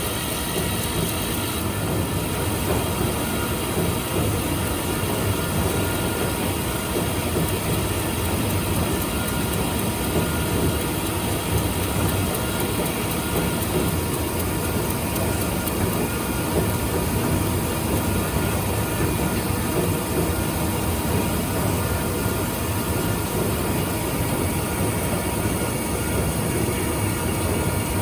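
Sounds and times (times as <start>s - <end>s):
milling machine humming: 0.0s - 28.0s.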